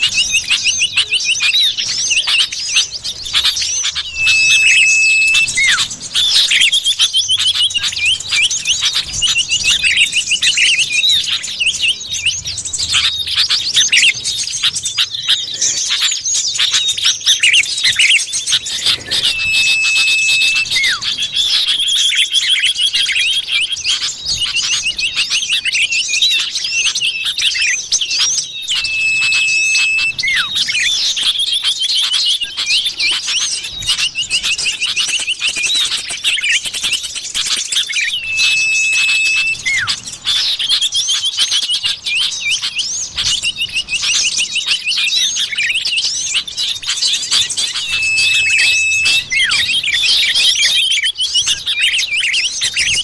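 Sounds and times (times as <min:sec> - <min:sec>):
steady even-pitched whistle: 0:00.0 - 0:14.6, 0:15.6 - 0:36.6, 0:37.4 - 0:53.0
bird chirps and trills: 0:00.0 - 0:53.0.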